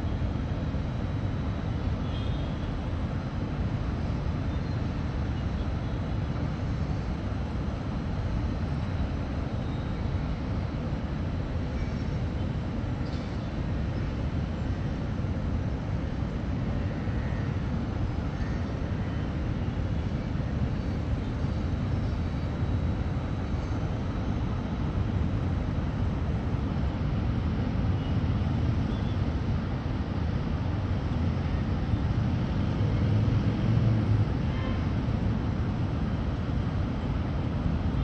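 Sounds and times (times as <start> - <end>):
low rumble of city ambience: 0.0 - 38.0.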